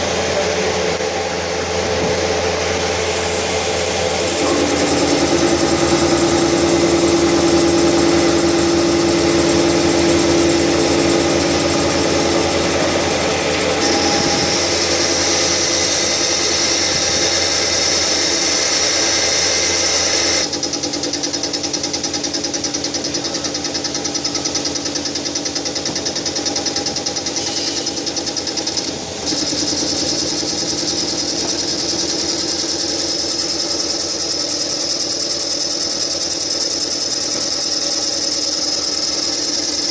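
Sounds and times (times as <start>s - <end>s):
machine running with rapid pulsing: 0.0s - 39.9s.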